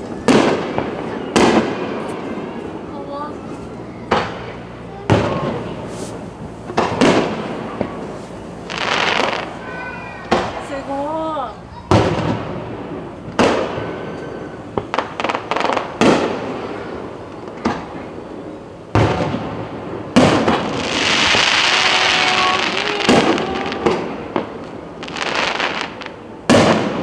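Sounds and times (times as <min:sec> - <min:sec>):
fireworks booming: 0:00.0 - 0:27.0
fireworks crackling: 0:00.0 - 0:27.0.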